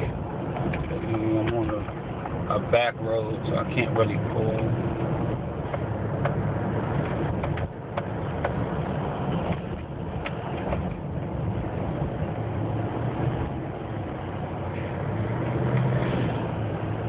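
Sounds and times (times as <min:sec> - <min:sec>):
truck engine and tyre hum: 0:00.0 - 0:17.0.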